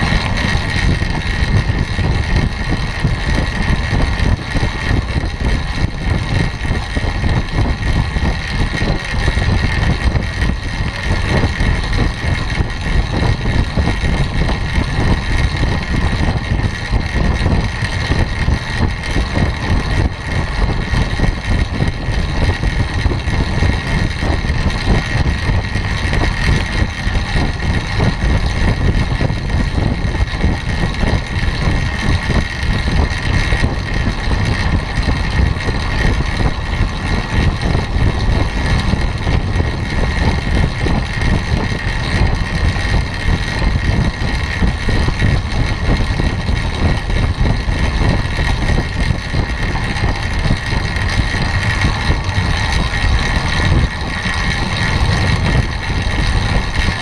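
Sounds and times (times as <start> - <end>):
bike tyres humming on wood: 0.0 - 57.0
wind rushing over microphone: 0.0 - 57.0.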